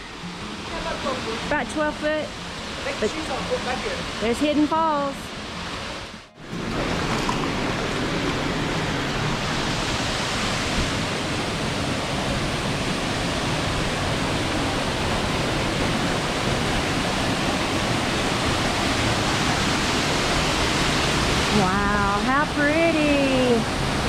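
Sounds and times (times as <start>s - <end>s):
small waterfall rushing: 0.0s - 24.0s.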